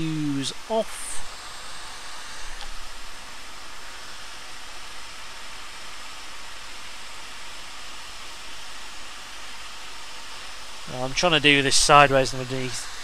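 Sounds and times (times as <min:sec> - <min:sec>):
hot air station hissing: 0:00.0 - 0:07.1, 0:08.6 - 0:13.0.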